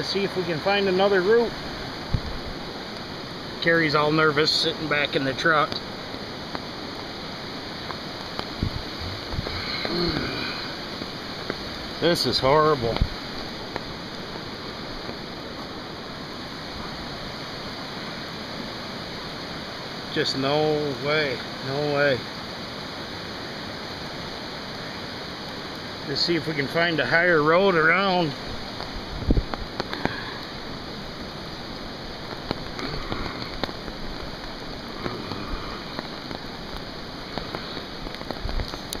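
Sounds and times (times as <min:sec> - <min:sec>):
raindrops ticking close by: 0:00.0 - 0:39.0
river rushing roar: 0:00.0 - 0:39.0
steady rain: 0:00.0 - 0:39.0.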